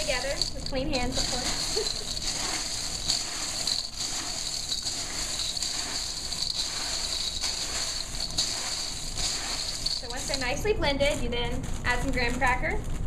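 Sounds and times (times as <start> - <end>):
popcorn rustling in metal bowl: 0.0 - 13.0.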